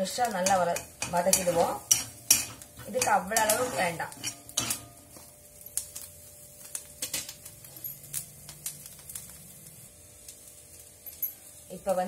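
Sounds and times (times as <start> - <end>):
onion frying crackles and pops: 0.0 - 12.0.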